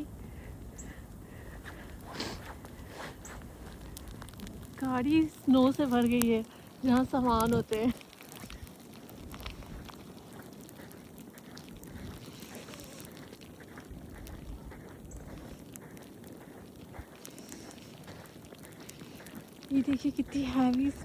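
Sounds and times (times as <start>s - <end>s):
low outdoor rumble: 0.0s - 21.0s
footsteps in snow: 1.4s - 21.0s.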